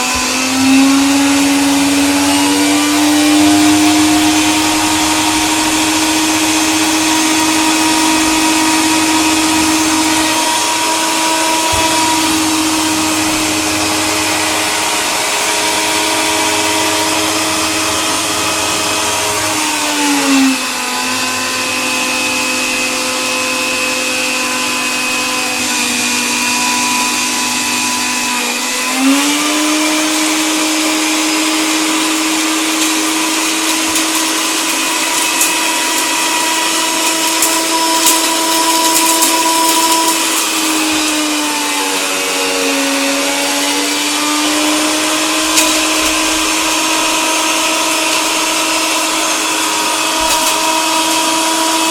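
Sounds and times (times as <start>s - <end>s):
coffee grinder motor whine: 0.0s - 51.9s.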